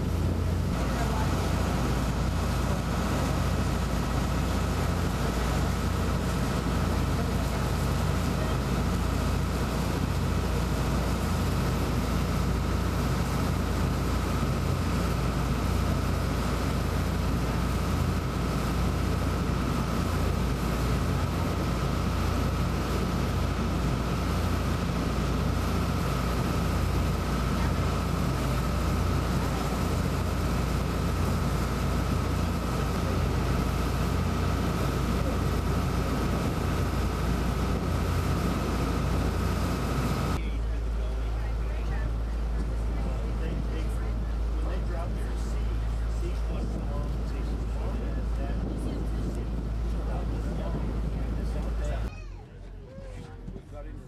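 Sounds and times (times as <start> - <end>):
water rushing along hull: 0.0 - 52.1
boat engine droning: 0.0 - 54.0.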